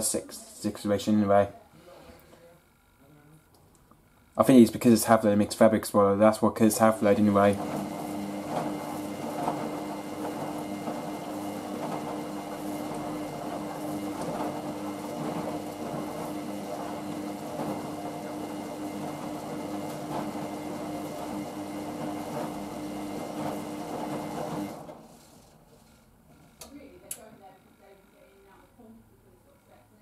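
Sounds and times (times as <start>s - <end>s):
washing machine motor hum: 0.0s - 2.3s, 4.4s - 28.0s.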